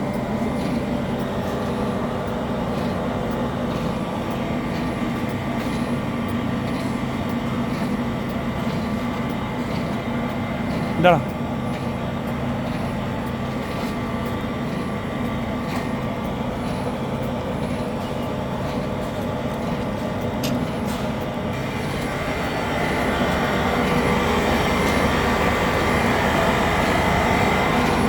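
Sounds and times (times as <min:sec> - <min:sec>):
machinery humming: 0:00.0 - 0:28.0.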